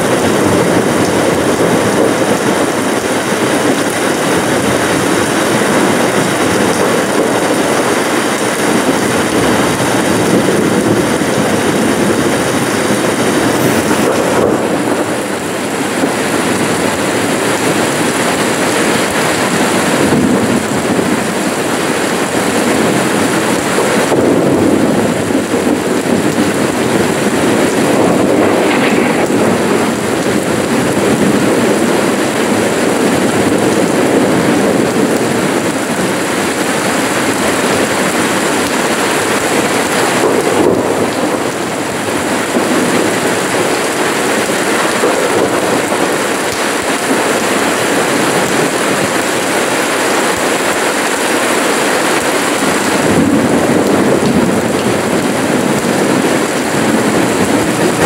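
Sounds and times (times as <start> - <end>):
steady rain on pavement: 0.0 - 58.0.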